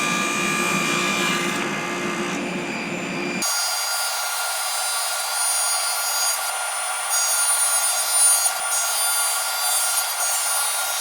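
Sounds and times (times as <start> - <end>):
table saw cutting wood: 0.0 - 11.0.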